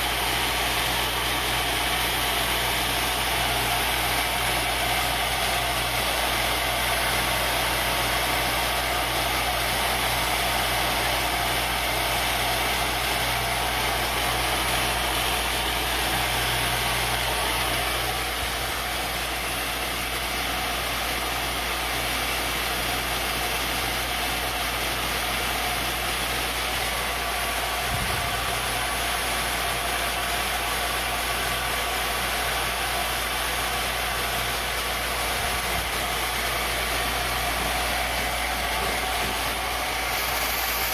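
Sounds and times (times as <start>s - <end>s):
mini mill cutting wood: 0.0s - 40.9s.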